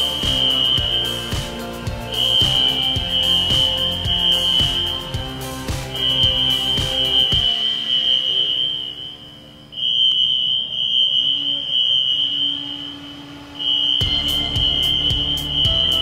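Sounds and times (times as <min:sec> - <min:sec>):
fire alarm horn tone: 0:00.0 - 0:16.0.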